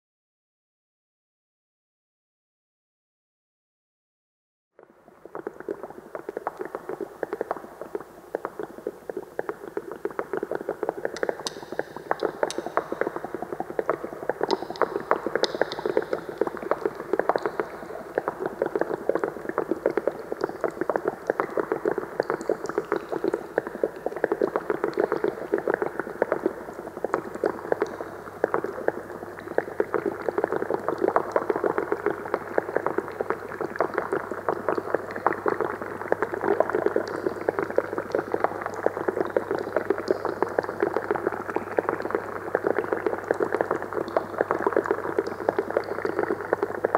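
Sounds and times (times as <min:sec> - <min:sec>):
liquid bubbling and crackling: 0:04.8 - 0:46.9.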